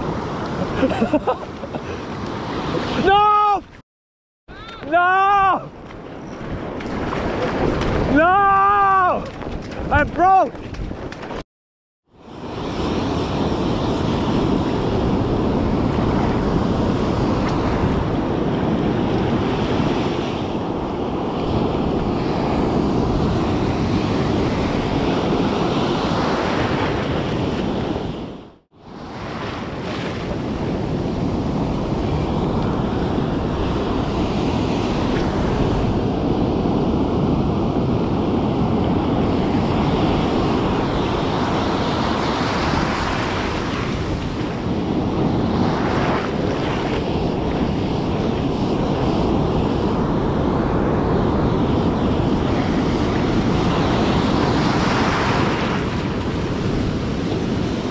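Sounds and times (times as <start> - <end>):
surf breaking on a beach: 0.0 - 3.8, 4.5 - 11.4, 12.2 - 57.9
wind buffeting the microphone: 4.6 - 11.4, 12.3 - 57.9.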